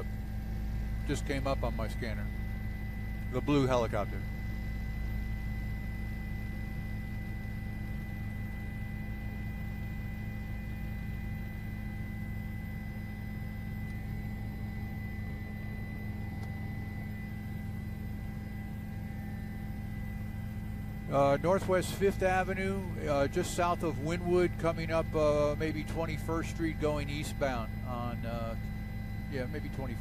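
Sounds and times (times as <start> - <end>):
faint held tones: 0.0 - 30.0
steady hum: 0.0 - 30.0.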